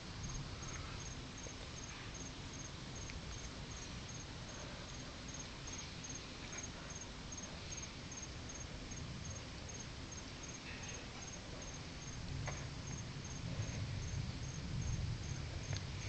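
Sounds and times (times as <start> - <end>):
cricket chirping: 0.0 - 16.0
faint low rumble: 0.0 - 16.0.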